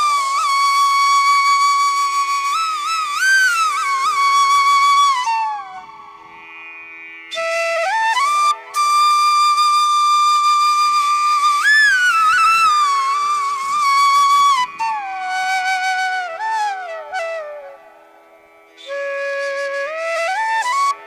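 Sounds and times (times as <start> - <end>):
solo flute melody: 0.0 - 6.5, 7.3 - 21.0.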